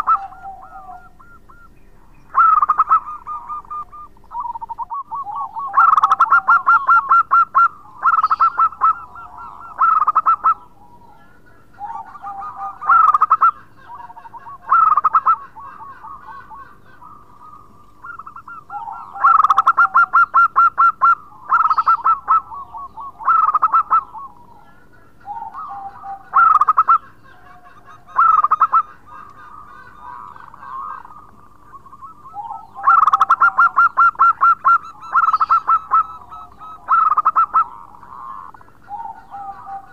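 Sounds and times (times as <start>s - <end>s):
dove cooing song: 0.0s - 39.9s.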